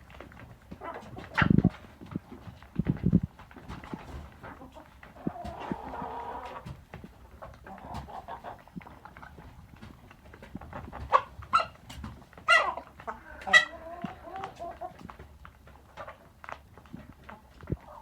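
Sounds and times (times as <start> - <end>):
chickens calling quietly: 0.1 - 18.0.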